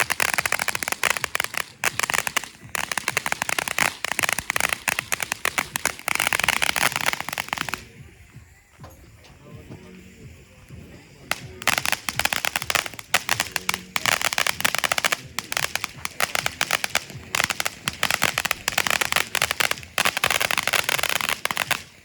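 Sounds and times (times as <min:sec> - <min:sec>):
fireworks crackling: 0:00.0 - 0:22.0.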